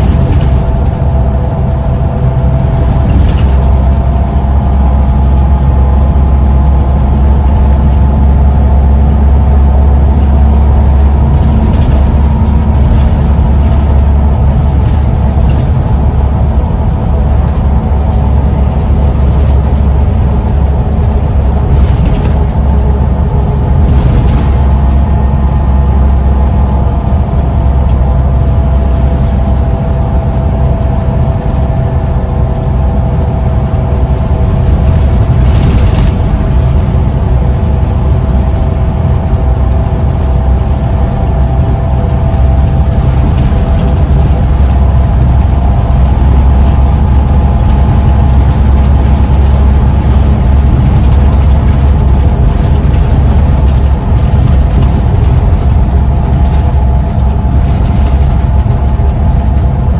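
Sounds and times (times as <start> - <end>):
bus diesel engine rumble: 0.0 - 59.9.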